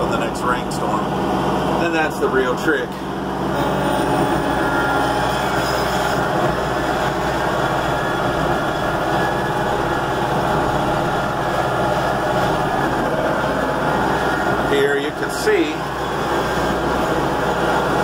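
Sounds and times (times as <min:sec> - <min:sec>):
road noise: 0:00.0 - 0:18.0
vehicle engine running: 0:00.0 - 0:18.0.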